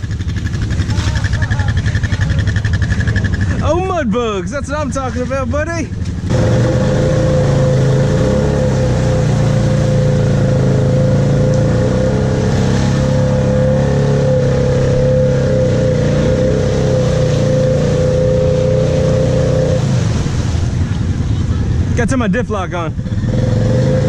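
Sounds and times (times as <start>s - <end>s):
atv engine running: 0.0s - 24.0s
tyres churning water: 0.0s - 24.0s.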